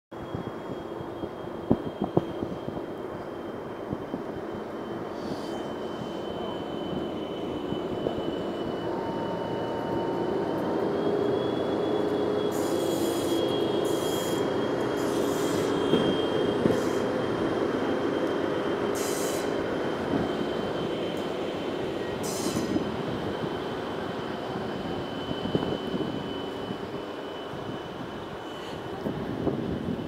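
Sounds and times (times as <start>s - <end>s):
diesel locomotive engine rumbling: 0.1s - 30.0s
wheels squealing on rails: 0.1s - 30.0s.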